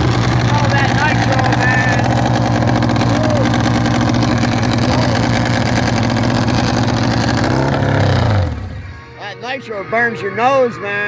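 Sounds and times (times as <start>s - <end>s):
motorcycle engine running loud: 0.0s - 9.1s.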